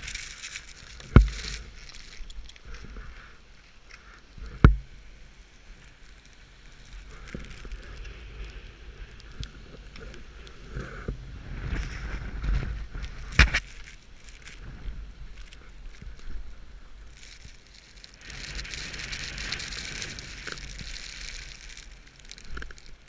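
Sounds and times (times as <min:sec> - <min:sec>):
skis scraping over snow: 0:00.0 - 0:23.0
wind rumble on microphone: 0:00.0 - 0:23.0.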